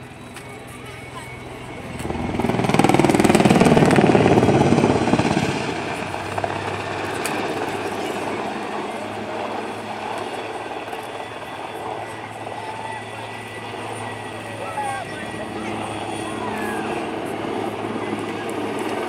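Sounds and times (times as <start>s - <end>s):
helicopter rotor chop: 0.0s - 19.0s.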